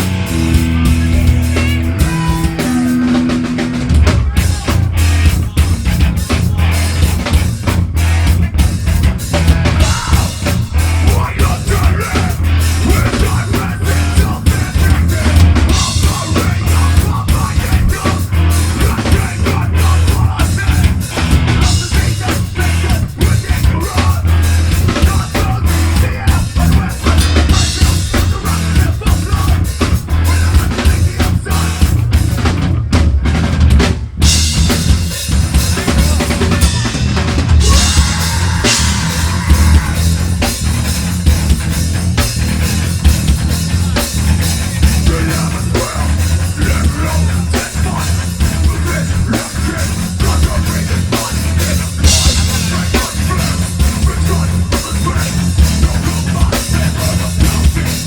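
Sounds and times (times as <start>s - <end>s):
fast drum kit hits: 0.0s - 58.0s
live metal band playing: 0.0s - 58.0s.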